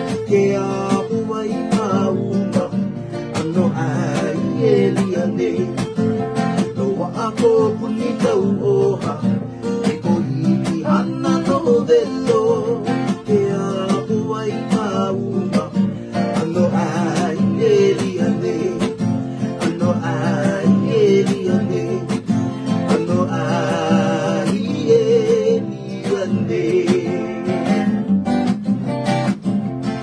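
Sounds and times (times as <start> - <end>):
acoustic guitars strumming: 0.0 - 30.0.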